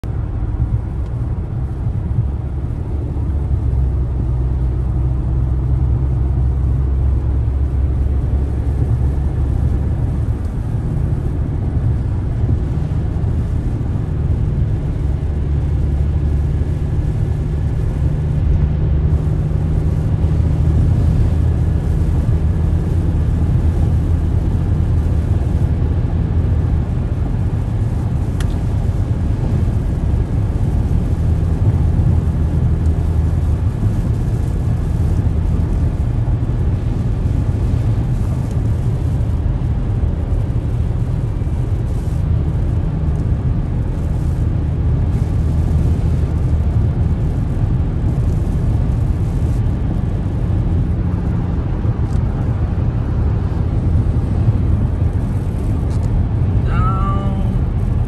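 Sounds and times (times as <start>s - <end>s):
car driving road and engine noise: 0.0s - 58.0s.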